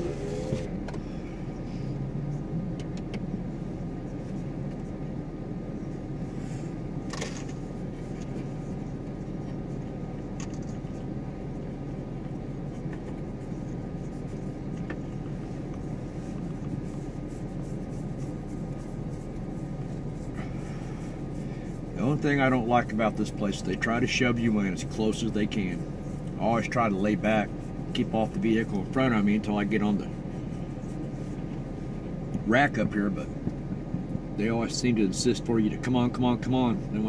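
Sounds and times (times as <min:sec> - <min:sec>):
car idling rumble: 0:00.0 - 0:37.0.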